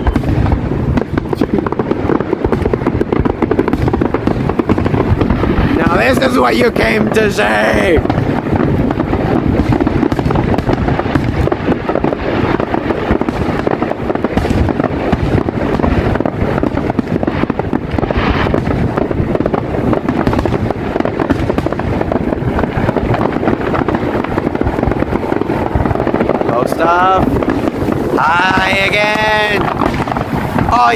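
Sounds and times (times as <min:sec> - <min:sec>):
fireworks barrage: 0:00.0 - 0:30.9.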